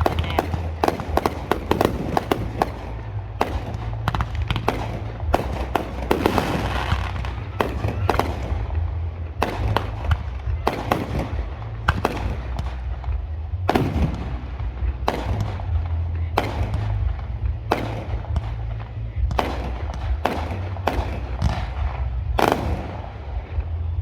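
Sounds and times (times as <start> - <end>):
fireworks bursting with echo: 0.0 - 24.0
steady low rumble: 0.0 - 24.0.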